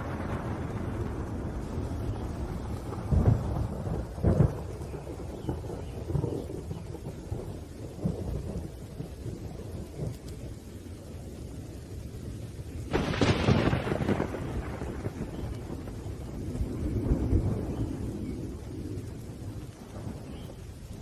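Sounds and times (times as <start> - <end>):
sharp thunderclap: 0.0 - 10.6, 12.9 - 21.0
low rumbling thunder: 0.0 - 21.0
rain: 0.0 - 21.0.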